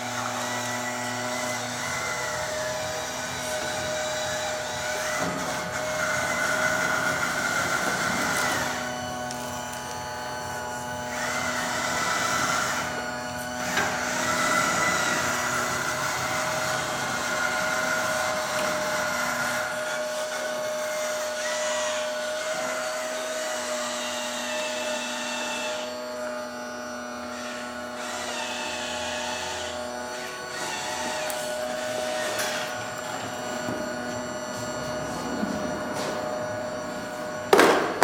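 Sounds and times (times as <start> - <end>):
small electric motors whining: 0.0 - 38.0.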